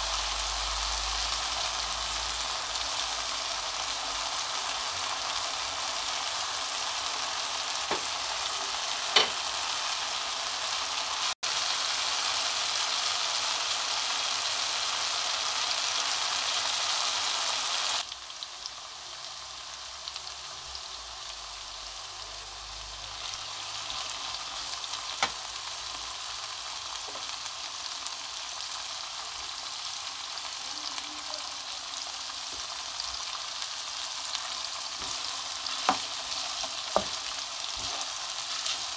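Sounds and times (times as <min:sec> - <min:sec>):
food sizzling in a frying pan: 0:00.0 - 0:38.9.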